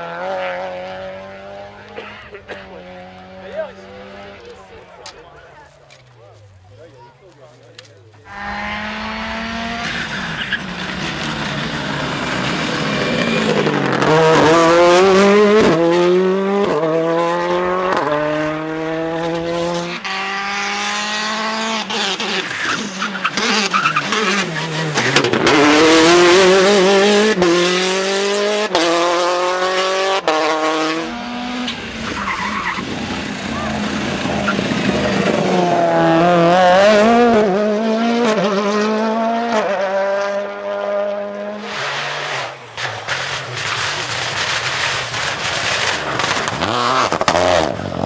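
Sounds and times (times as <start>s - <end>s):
rally car engine accelerating: 0.0s - 4.8s, 8.2s - 48.0s.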